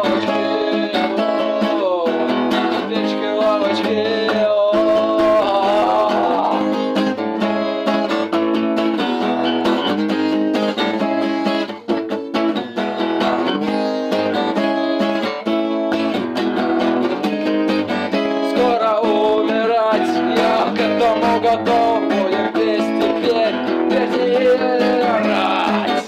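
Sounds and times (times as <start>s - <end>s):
acoustic guitar chords strummed: 0.0s - 26.0s
wavering guitar melody line: 0.0s - 26.0s.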